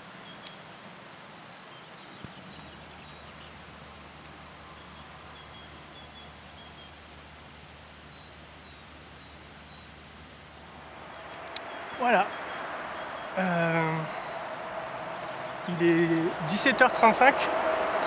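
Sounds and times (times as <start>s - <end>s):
small birds chirping: 0.0s - 17.3s
faint steady hiss: 0.0s - 18.0s.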